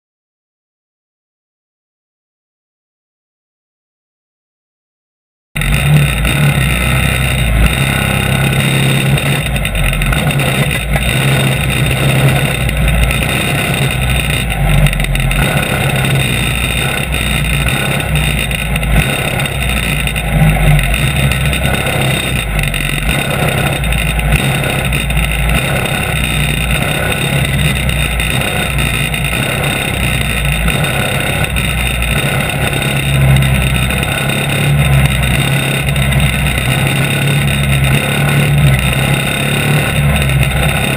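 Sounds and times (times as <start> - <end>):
go-kart engine running: 5.6 - 40.9.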